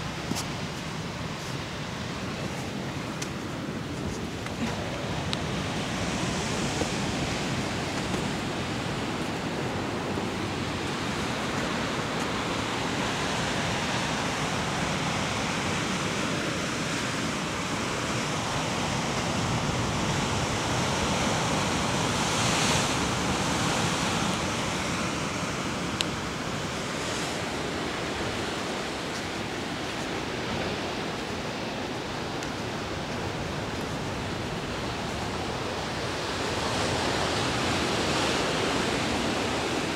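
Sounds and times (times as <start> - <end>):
ocean surf breaking on rocks: 0.0 - 39.9
wind: 0.0 - 39.9.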